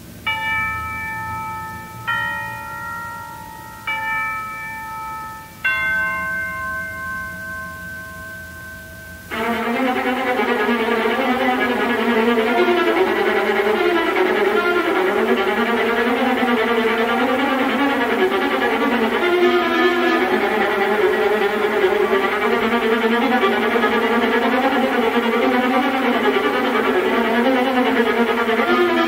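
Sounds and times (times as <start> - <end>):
orchestra strings bowing: 0.0 - 29.0
struck bell tones: 0.2 - 29.0.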